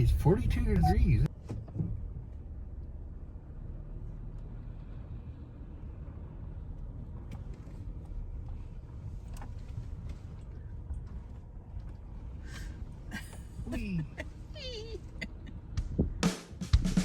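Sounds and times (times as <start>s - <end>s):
vehicle rumble on dirt road: 0.0s - 16.4s.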